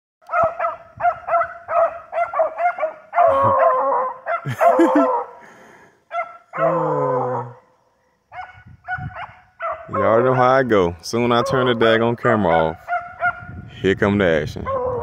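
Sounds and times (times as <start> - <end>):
beagles baying: 0.3 - 5.5, 6.1 - 7.6, 8.2 - 13.6, 14.6 - 15.0.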